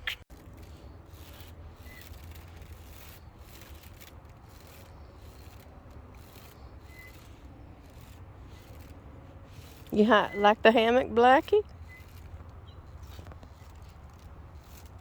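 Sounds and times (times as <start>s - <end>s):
faint rubbing and rustling: 0.3s - 15.0s.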